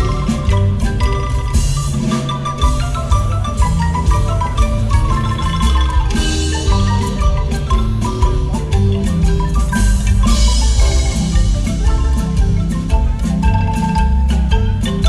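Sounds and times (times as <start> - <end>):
low bass line: 0.0 - 15.0
marimba notes: 0.0 - 15.0.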